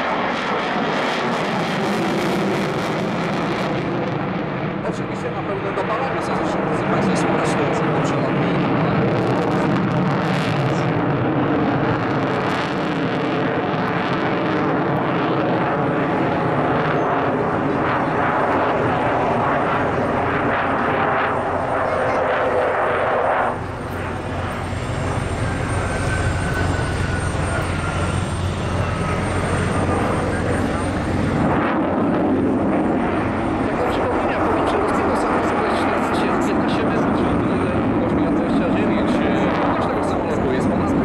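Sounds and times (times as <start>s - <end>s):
jet engine roar: 0.0s - 41.0s.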